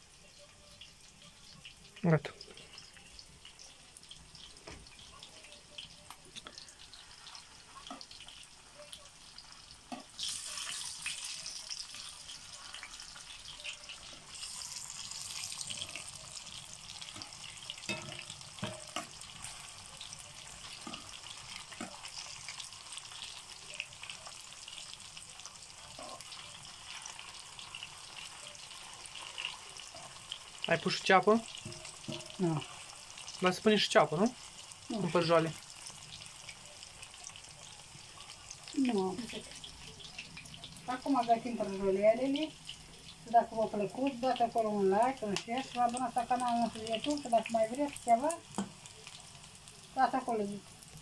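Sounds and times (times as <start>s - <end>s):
meat sizzling in oil: 0.0s - 51.0s.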